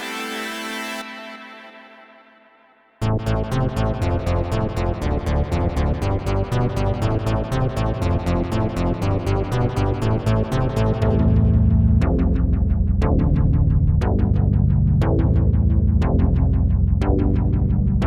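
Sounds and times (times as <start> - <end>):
heavy synth bass: 3.0 - 18.0.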